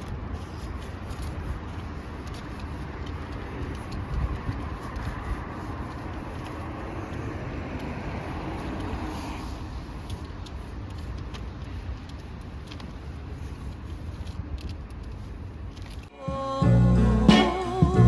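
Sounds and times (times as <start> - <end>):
car traffic rumble: 0.0 - 18.0.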